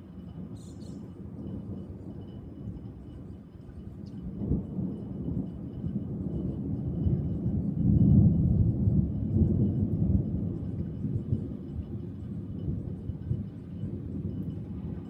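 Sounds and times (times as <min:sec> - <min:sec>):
rolling thunder: 0:00.0 - 0:15.0.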